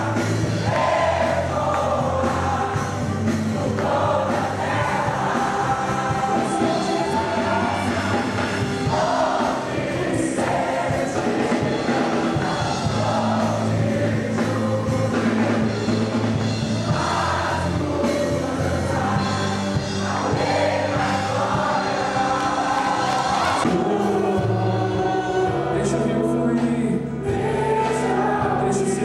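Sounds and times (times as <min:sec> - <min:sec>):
instrumental backing: 0:00.0 - 0:29.0
voices singing worship song: 0:00.0 - 0:29.0.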